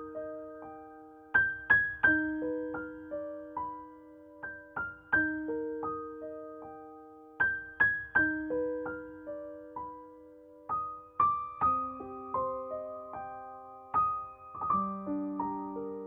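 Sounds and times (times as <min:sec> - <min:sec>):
slow gentle solo piano: 0:00.0 - 0:16.0.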